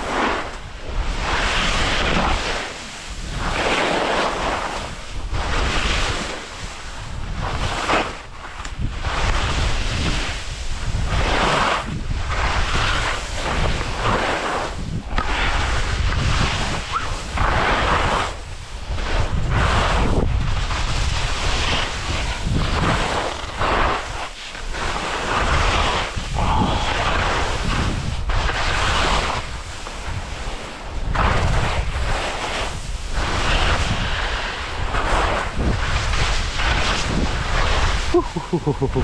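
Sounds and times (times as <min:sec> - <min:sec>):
skis scraping through snow: 0:00.0 - 0:39.0
wind rumble on microphone: 0:00.0 - 0:39.0.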